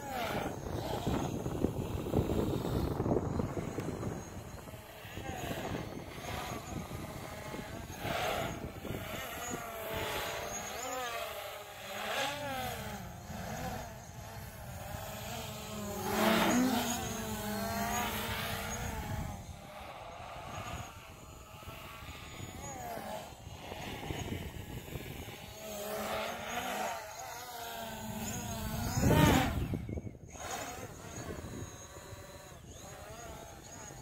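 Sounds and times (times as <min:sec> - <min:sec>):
drone propellers whining: 0:00.0 - 0:34.0
wind buffeting microphone: 0:00.0 - 0:34.0.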